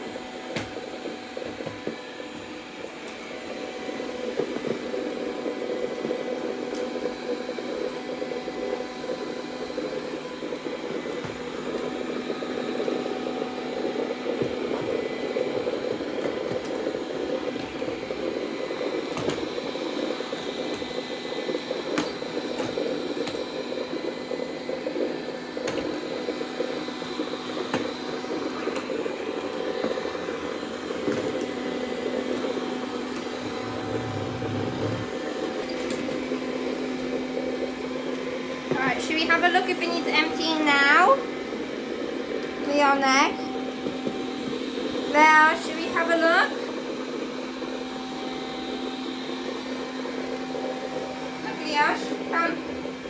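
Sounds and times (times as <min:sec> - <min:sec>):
robot vacuum running: 0:00.0 - 0:53.0.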